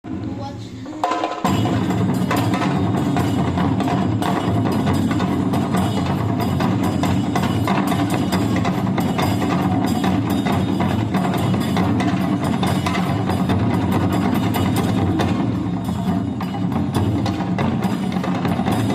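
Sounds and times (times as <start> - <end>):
drums in fast rhythm: 0.0 - 18.9.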